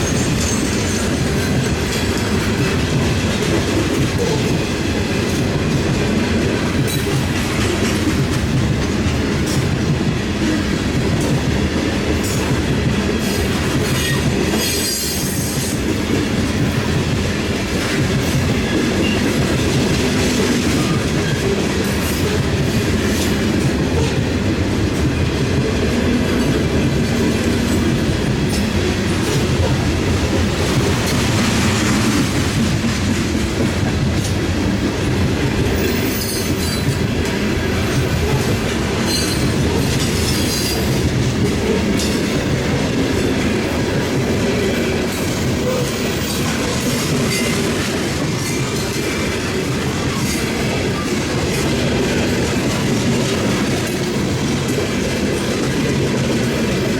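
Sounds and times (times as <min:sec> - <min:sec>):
freight train cars rumbling past: 0:00.0 - 0:56.9.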